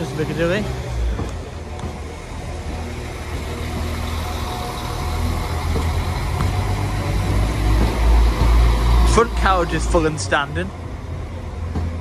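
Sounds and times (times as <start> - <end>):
diesel train departing: 0.0 - 12.0.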